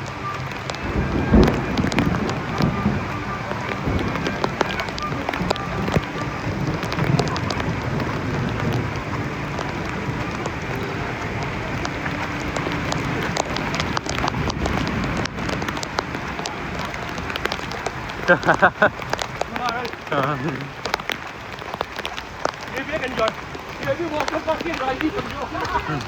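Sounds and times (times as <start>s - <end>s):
heavy rain falling: 0.0s - 26.0s
raindrops hitting close: 0.0s - 26.0s.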